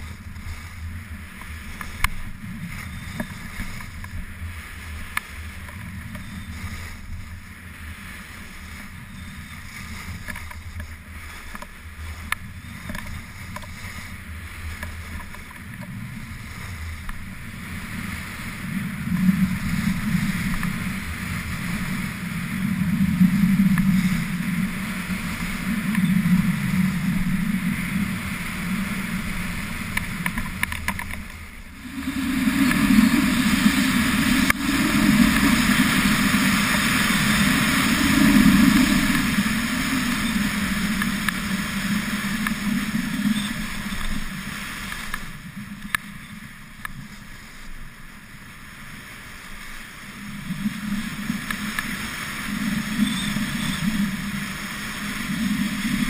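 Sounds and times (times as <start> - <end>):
skis sliding on packed snow: 0.0 - 56.0
wind rushing over microphone: 0.0 - 56.0.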